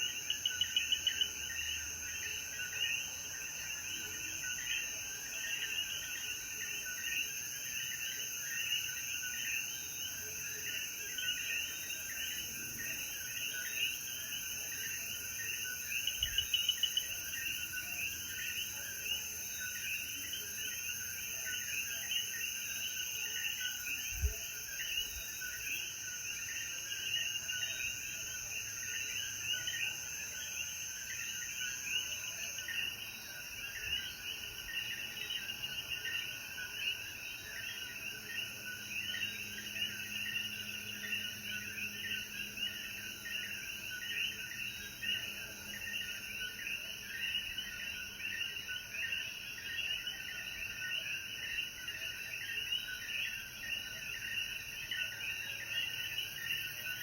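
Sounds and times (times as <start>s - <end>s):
frogs chirping: 0.0s - 57.0s.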